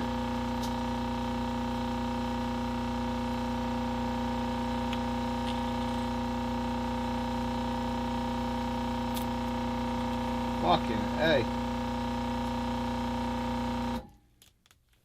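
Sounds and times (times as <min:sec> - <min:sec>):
steady electrical hum: 0:00.0 - 0:14.4.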